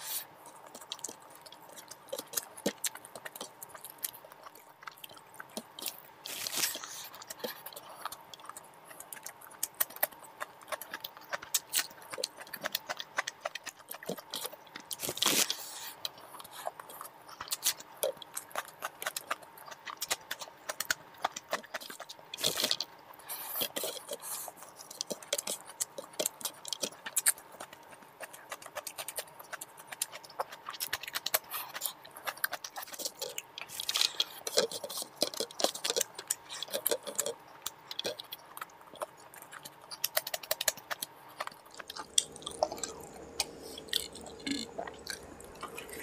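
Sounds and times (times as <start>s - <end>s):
cucumber crunch bite: 0.0s - 22.8s, 23.4s - 46.0s
mouth chewing with wet clicks: 0.0s - 46.0s.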